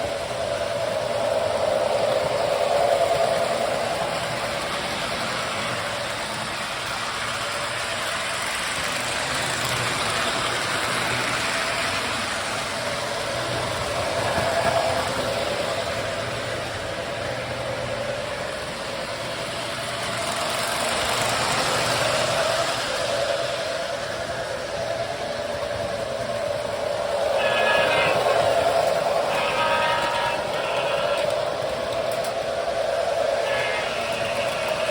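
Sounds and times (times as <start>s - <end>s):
toy train motor whir: 0.0s - 24.8s, 25.5s - 34.9s
wheels rumbling on metal rails: 0.0s - 34.9s.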